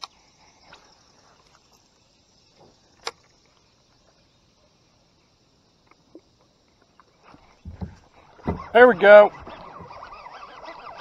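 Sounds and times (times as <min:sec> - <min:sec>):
faint steady hiss: 0:00.0 - 0:10.7.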